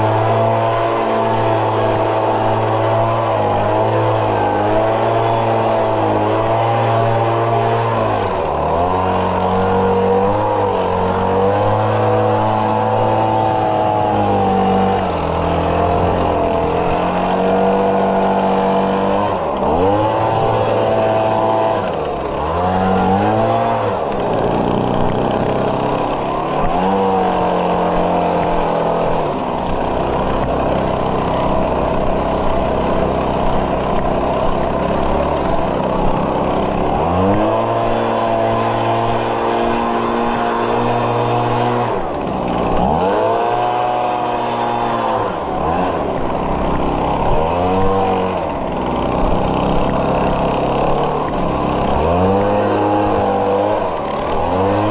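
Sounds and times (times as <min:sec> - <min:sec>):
small lawn equipment engine: 0:00.0 - 0:54.9.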